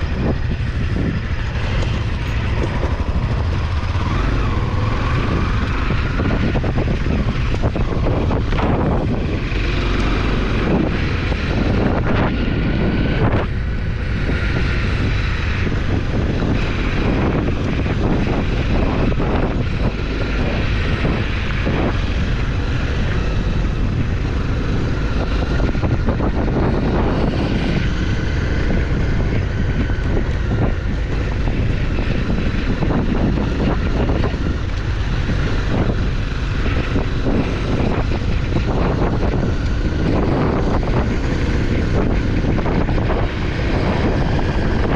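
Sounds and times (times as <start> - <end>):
motorcycle engine revving: 0.0 - 44.9
wind buffeting microphone: 0.0 - 44.9.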